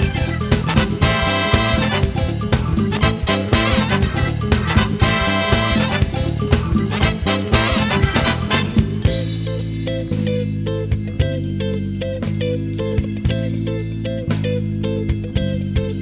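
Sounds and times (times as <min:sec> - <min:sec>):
acid jazz band music: 0:00.0 - 0:16.0.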